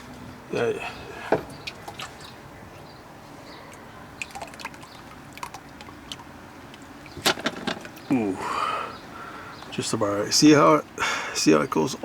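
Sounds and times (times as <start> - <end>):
oil trickling and dripping: 0.0 - 11.4.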